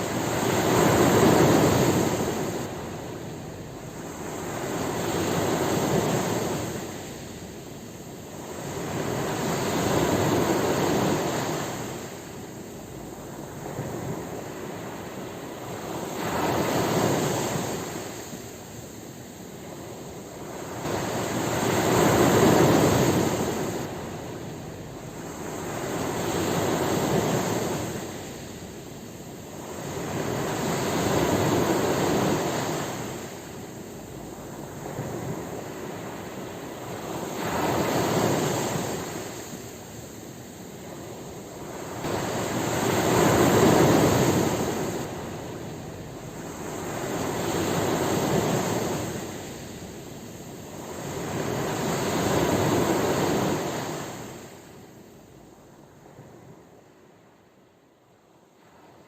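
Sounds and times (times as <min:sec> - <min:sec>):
ocean waves breaking: 0:00.0 - 0:56.7.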